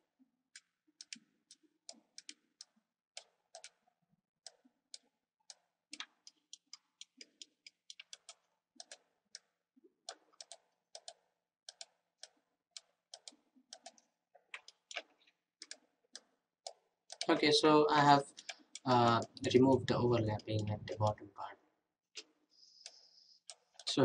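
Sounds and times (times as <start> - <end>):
computer mouse clicking: 0.5 - 3.8, 4.5 - 9.5, 10.1 - 17.5, 18.1 - 21.2, 22.2 - 24.0.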